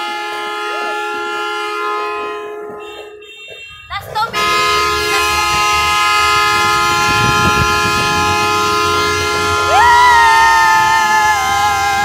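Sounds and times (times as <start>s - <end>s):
higher horn toot with upward swoop: 0.0s - 12.0s
vehicle horns blaring: 0.0s - 12.0s.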